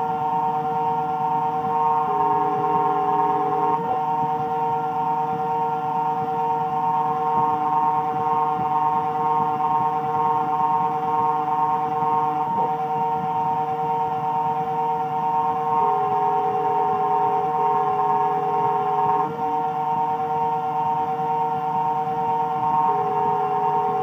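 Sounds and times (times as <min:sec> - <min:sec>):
milling machine whine: 0:00.0 - 0:24.0.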